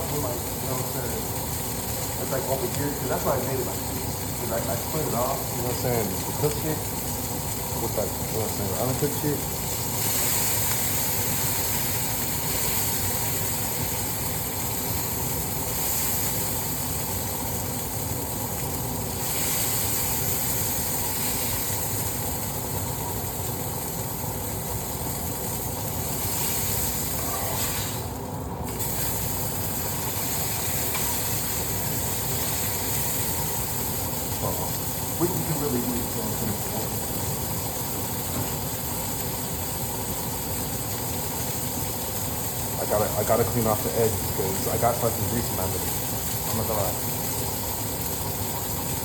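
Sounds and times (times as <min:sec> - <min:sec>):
burger patties sizzling: 0:00.0 - 0:49.0.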